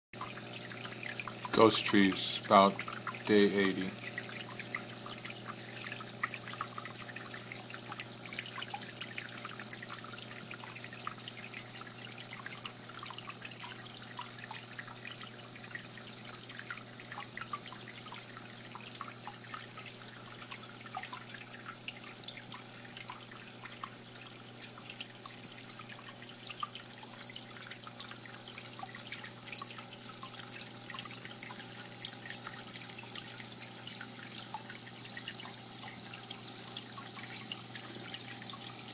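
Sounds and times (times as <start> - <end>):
water trickling and dripping: 0.2 - 38.9.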